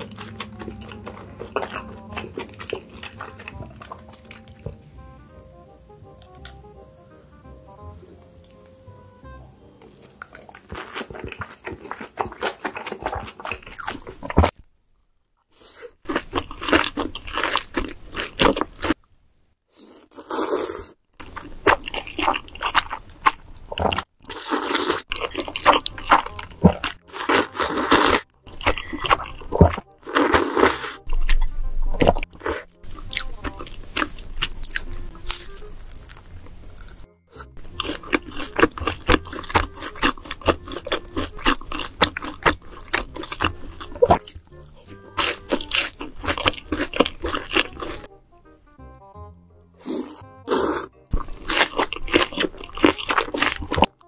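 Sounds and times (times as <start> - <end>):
fried chicken crunching: 0.0 - 4.8, 9.8 - 14.8, 15.9 - 19.0, 19.7 - 48.1, 49.8 - 54.0
wet chewing: 0.0 - 4.8, 9.8 - 14.8, 15.6 - 48.1, 49.8 - 54.0.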